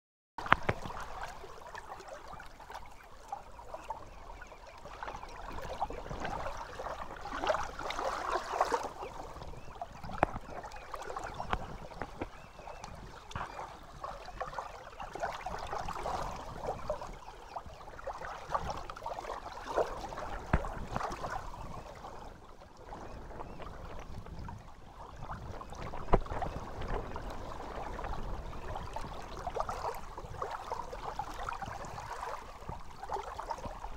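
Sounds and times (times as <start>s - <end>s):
lake water lapping and splashing: 0.4s - 33.9s
wind rumble on microphone: 3.4s - 33.9s.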